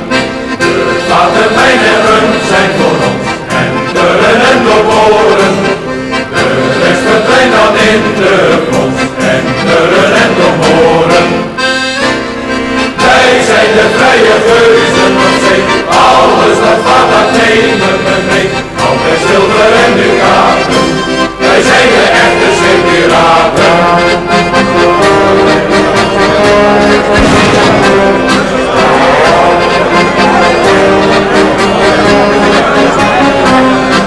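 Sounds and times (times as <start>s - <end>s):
accordion folk tune: 0.0s - 34.0s.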